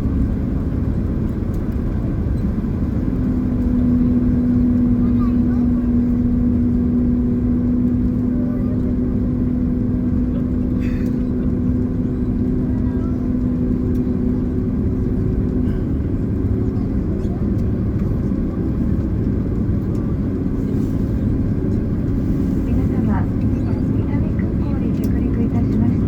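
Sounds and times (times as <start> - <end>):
airplane cabin noise: 0.0 - 26.0
jet engine hum: 0.0 - 26.0.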